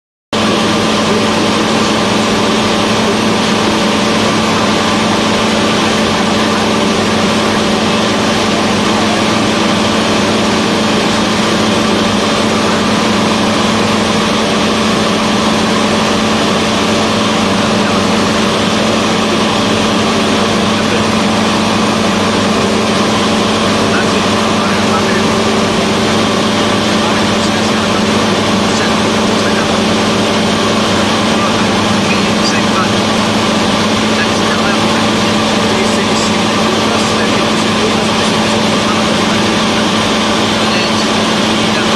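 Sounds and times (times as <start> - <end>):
light aircraft engine droning: 0.4 - 41.9.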